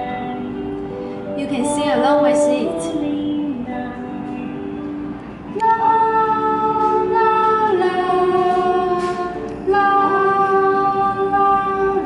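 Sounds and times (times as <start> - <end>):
karaoke backing song: 0.0 - 12.0
woman singing long notes: 1.3 - 4.6, 5.6 - 12.0.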